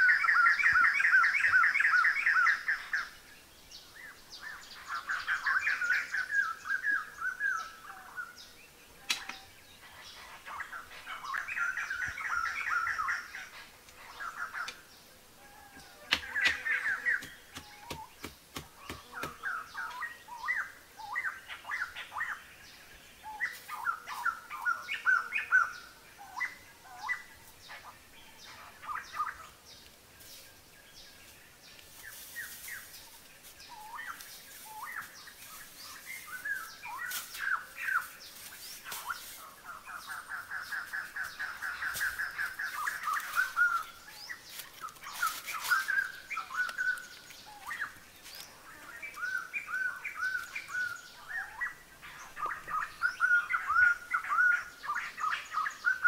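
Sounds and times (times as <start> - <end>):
wild birds chirping: 0.0 - 56.0.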